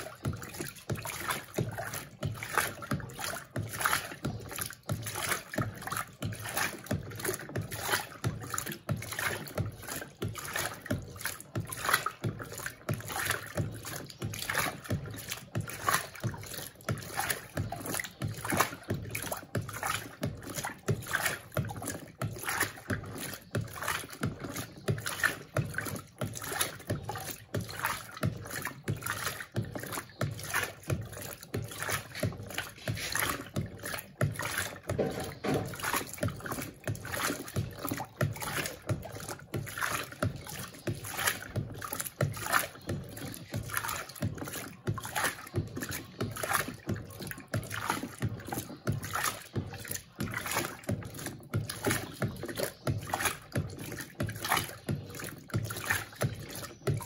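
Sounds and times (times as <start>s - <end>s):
washing machine sloshing: 0.0s - 57.0s.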